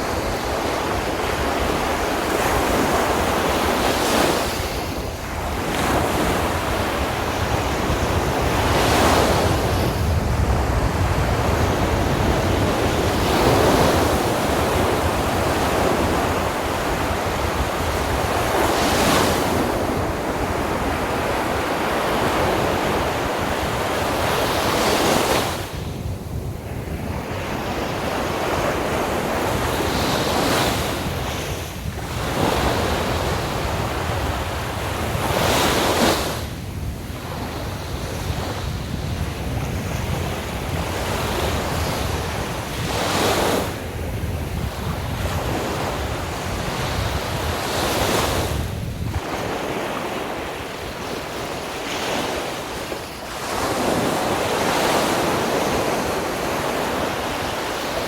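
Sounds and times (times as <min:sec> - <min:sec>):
sea waves breaking on beach: 0:00.0 - 0:58.0
wind buffeting microphone: 0:00.0 - 0:58.0.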